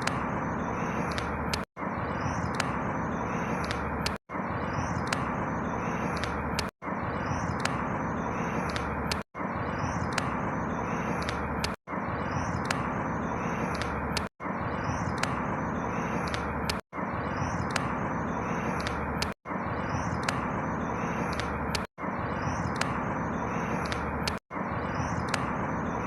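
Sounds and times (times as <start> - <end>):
rushing outdoor ambience: 0.0 - 26.0.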